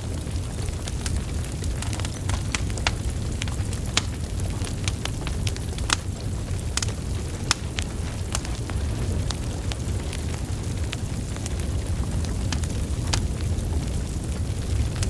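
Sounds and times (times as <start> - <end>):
burning logs crackling: 0.0 - 15.0.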